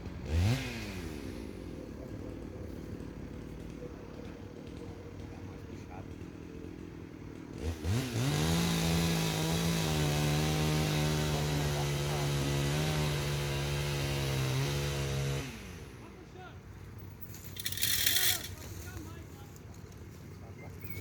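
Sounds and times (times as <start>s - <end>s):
chainsaw revving: 0.0s - 16.2s, 17.2s - 18.8s.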